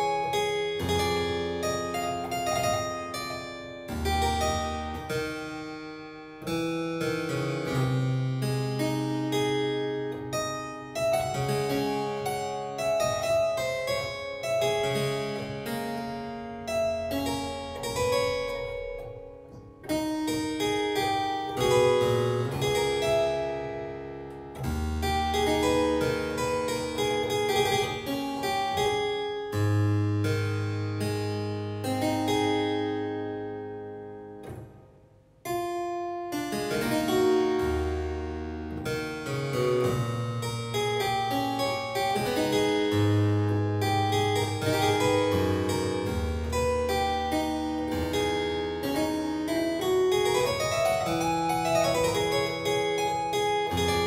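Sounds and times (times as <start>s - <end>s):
harpsichord music: 0.0s - 54.0s.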